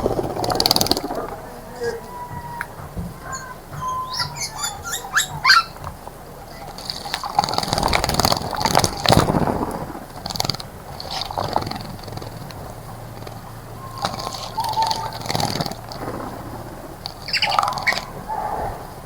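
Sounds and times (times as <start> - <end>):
birds chirping: 0.0 - 19.0
water splashing in bird bath: 0.0 - 19.0.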